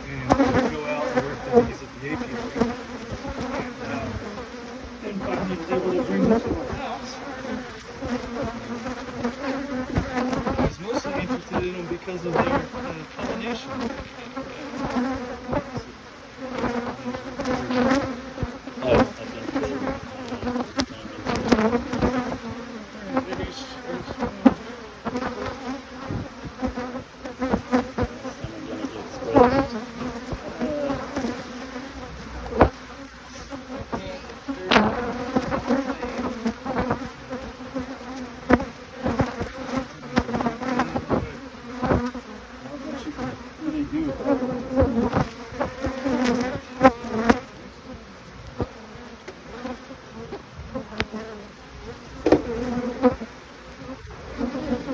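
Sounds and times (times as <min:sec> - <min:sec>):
bees buzzing: 0:00.0 - 0:54.9.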